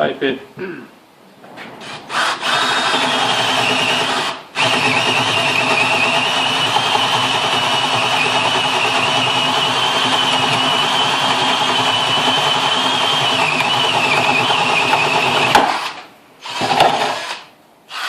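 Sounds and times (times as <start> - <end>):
drill motor whine: 1.8 - 18.0
drill bit cutting wood: 2.1 - 18.0.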